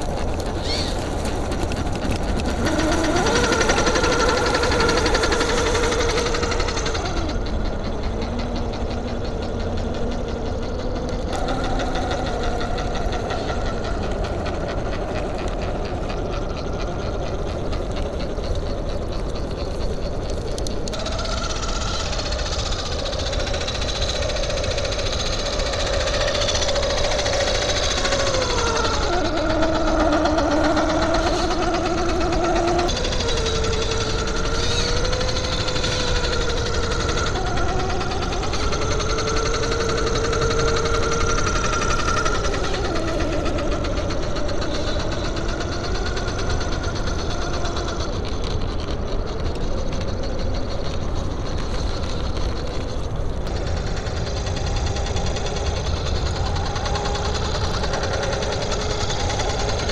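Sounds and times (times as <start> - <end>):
toy car motor whining and rattling: 0.0 - 59.9.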